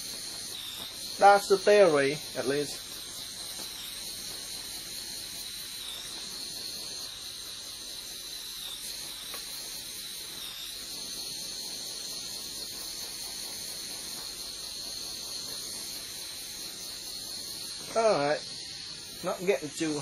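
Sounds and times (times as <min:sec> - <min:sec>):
blowtorch flame hissing: 0:00.0 - 0:20.0.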